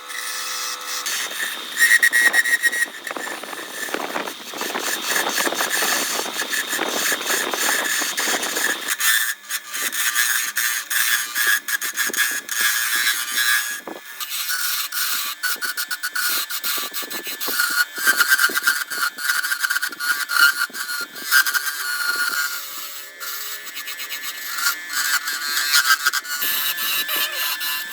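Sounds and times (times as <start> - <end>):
tool scraping wood: 0.0 - 27.9.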